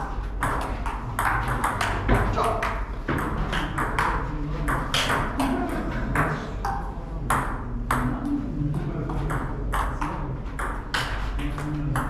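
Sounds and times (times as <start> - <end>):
low hum of hall: 0.0 - 12.0.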